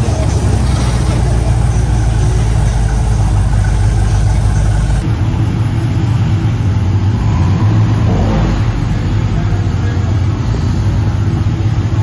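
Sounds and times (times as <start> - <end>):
car engines in parking garage: 0.0 - 12.0
loud car engine running: 0.0 - 12.0.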